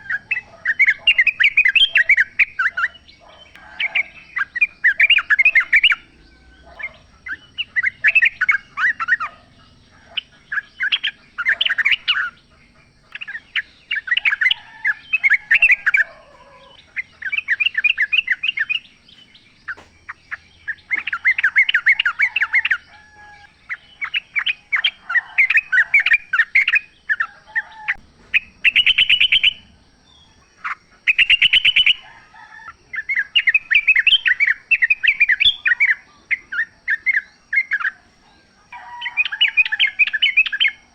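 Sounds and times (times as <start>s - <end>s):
birds warbling: 0.0s - 40.9s.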